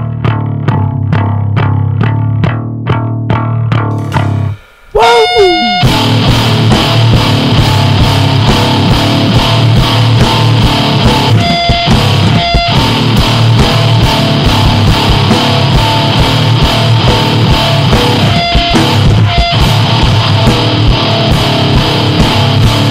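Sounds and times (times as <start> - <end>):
electric guitar: 0.0 - 22.9.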